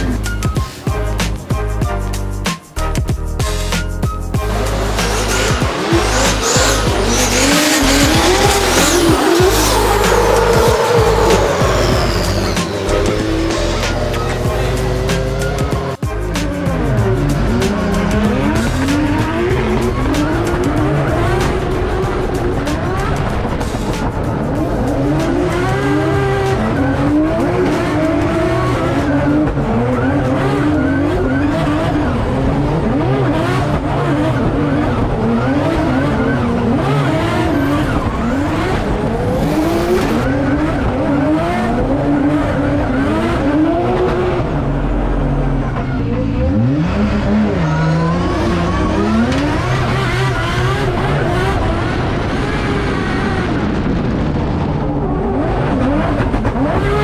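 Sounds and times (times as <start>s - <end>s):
car engine revving hard: 4.4s - 57.0s.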